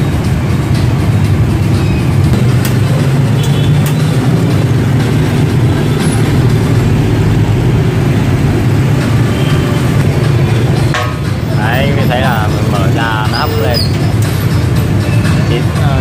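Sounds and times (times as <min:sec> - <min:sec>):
city bus running: 0:00.0 - 0:16.0
motorbike engines: 0:00.0 - 0:16.0.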